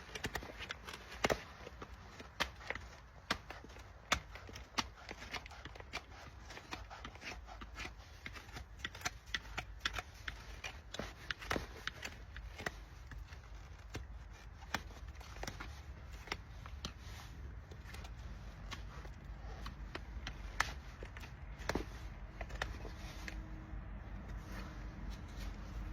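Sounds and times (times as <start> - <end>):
tools snipping and scraping hoof: 0.0 - 25.9.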